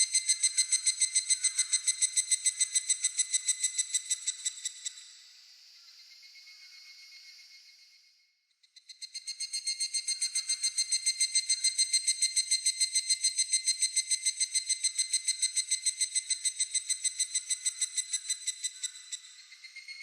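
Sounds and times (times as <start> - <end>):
cicada calling: 0.0 - 5.0, 9.0 - 20.0.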